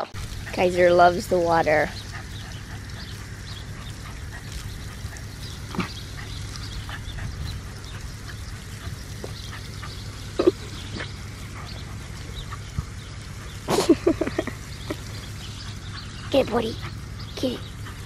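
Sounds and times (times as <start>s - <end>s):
water spraying from hose: 0.0s - 18.0s.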